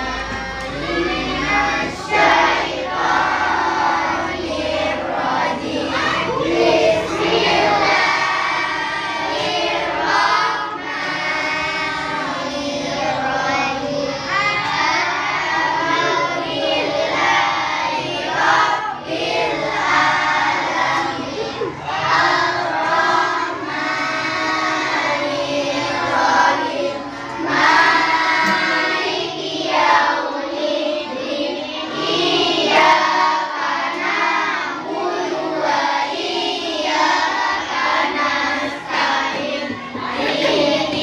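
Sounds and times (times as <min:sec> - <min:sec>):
children chanting a prayer: 0:00.0 - 0:41.0.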